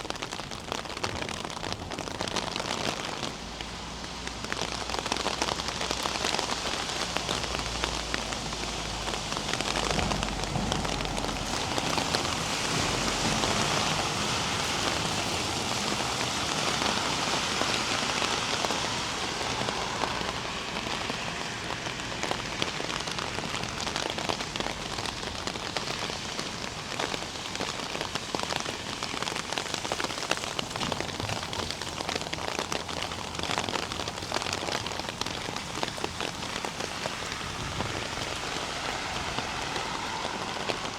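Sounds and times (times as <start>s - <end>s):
rain pattering on hard surfaces: 0.0s - 40.9s.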